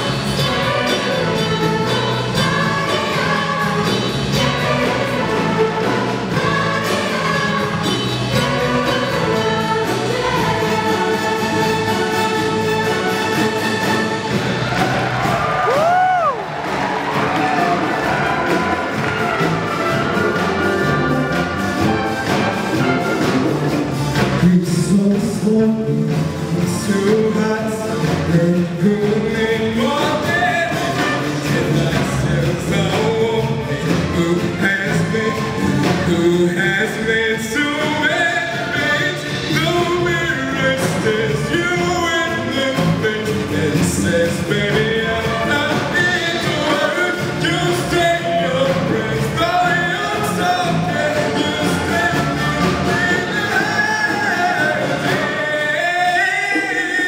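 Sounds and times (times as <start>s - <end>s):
orchestra and choir playing disco-funk: 0.0s - 57.0s.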